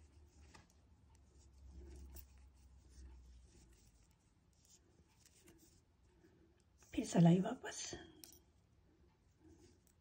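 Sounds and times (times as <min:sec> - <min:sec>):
knitting needle rubbing yarn: 0:00.0 - 0:10.0.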